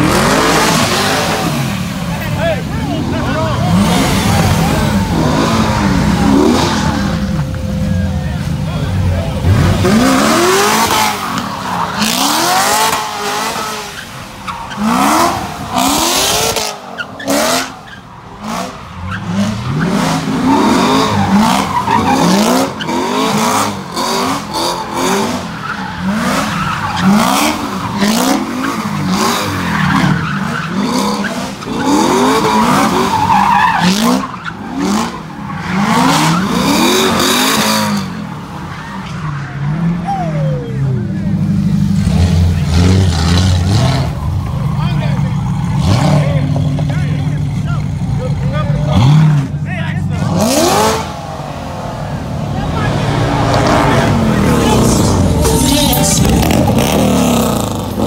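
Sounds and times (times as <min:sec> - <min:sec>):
car engine revving: 0:00.0 - 0:38.7, 0:41.1 - 0:58.0
tires squealing: 0:00.0 - 0:58.0.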